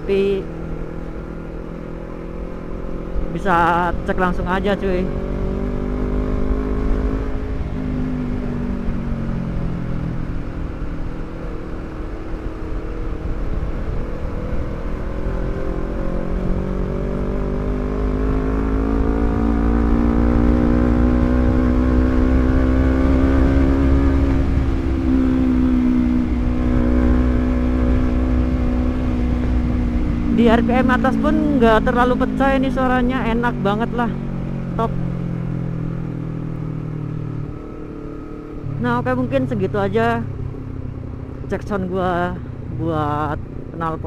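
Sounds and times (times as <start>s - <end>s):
motorcycle exhaust accelerating: 0.0s - 44.0s.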